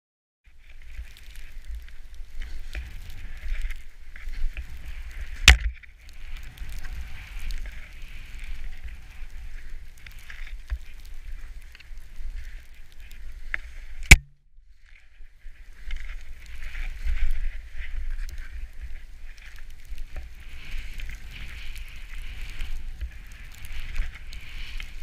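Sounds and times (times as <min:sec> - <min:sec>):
wind rumbling on microphone: 0:00.5 - 0:25.0
skis hissing through snow: 0:00.6 - 0:14.0, 0:14.7 - 0:25.0.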